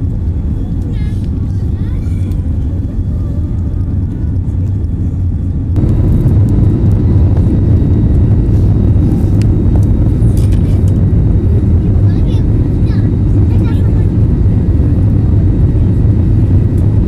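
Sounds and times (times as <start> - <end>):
jet cabin low rumble: 0.0 - 17.0.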